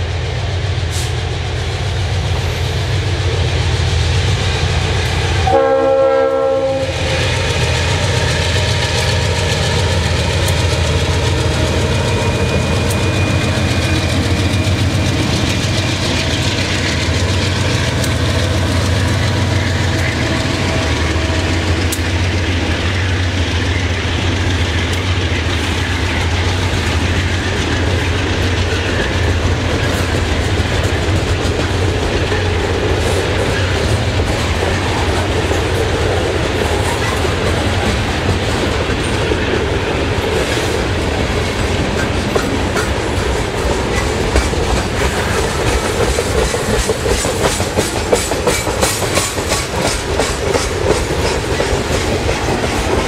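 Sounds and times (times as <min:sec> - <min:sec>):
diesel locomotive engine drone: 0:00.0 - 0:53.0
freight cars rumbling on rails: 0:00.0 - 0:53.0.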